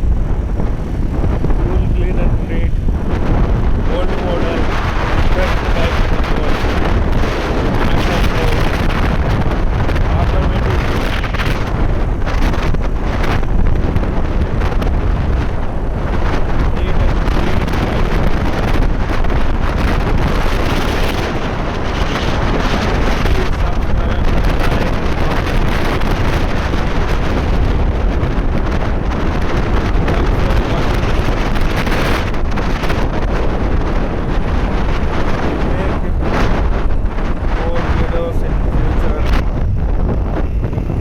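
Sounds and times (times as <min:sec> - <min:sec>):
wind rumbling on microphone: 0:00.0 - 0:41.0.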